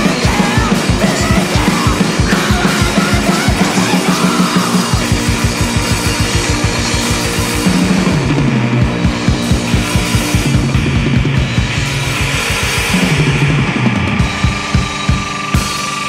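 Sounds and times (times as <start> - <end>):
distorted electric guitar: 0.0 - 16.0
rock drum kit: 0.0 - 16.0.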